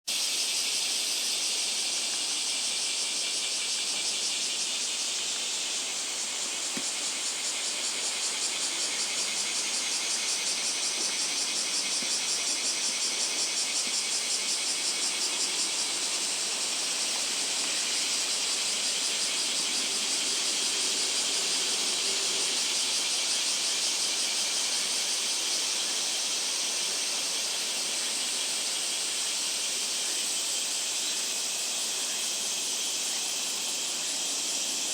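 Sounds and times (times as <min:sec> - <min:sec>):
cicadas buzzing: 0:00.1 - 0:34.9.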